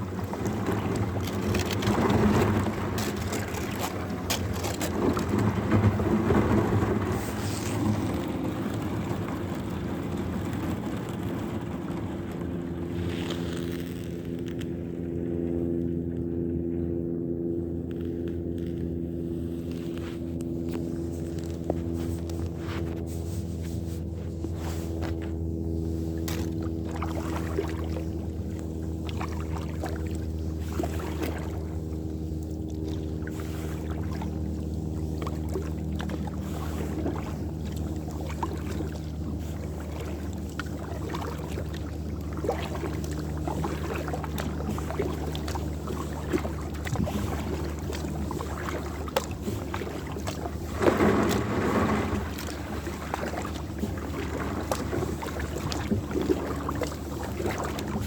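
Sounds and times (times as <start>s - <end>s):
steady low hum: 0.0s - 58.0s
water splashing against kayak hull: 0.0s - 58.0s.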